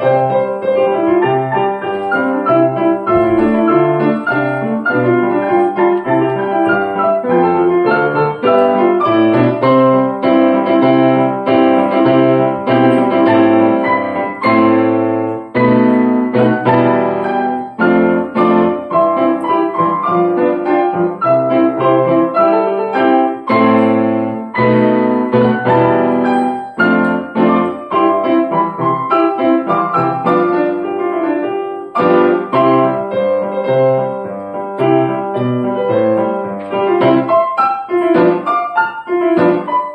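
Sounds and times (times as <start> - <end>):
piano played four hands: 0.0 - 39.9.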